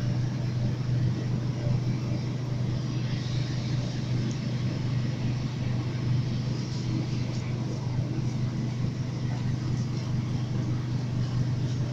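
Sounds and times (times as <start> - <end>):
train interior hum: 0.0 - 11.9.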